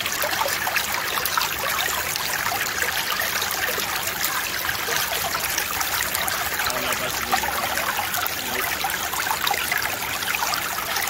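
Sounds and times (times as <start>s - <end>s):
creek water trickling: 0.0s - 11.0s.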